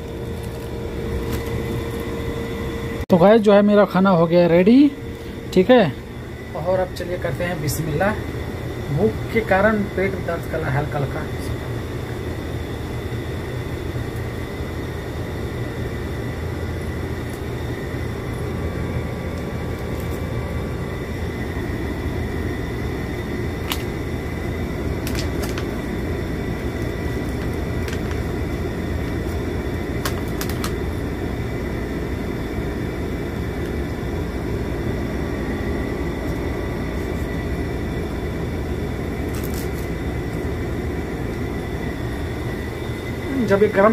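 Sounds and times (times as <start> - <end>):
cooling fan whirring: 0.0 - 43.9.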